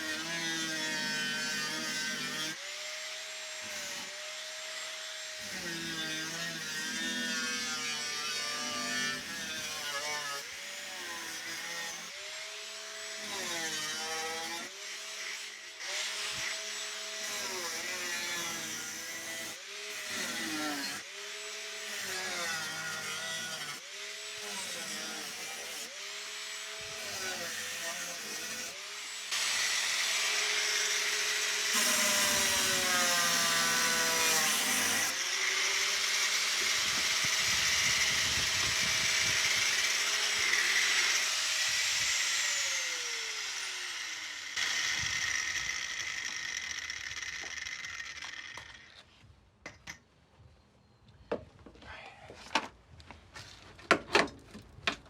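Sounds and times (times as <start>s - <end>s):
power tool cutting sheet steel: 0.0s - 49.0s.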